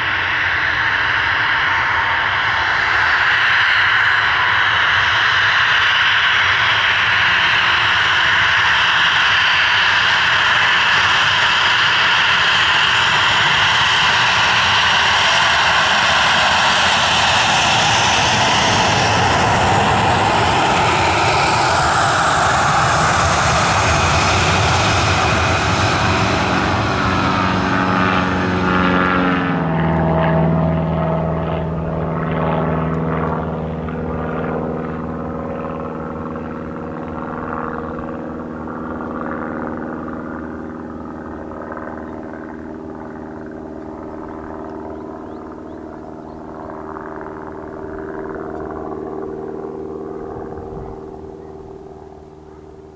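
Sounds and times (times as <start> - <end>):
jet engines rushing with whine: 0.0 - 52.9
low engine hum: 0.0 - 52.9.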